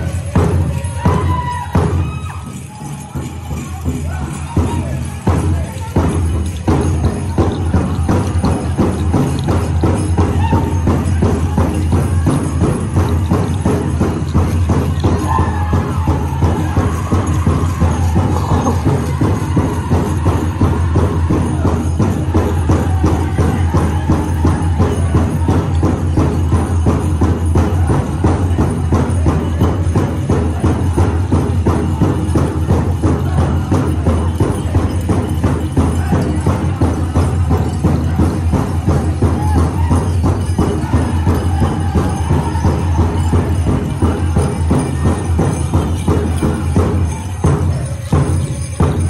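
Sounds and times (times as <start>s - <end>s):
big drum fast beat: 0.0s - 49.0s.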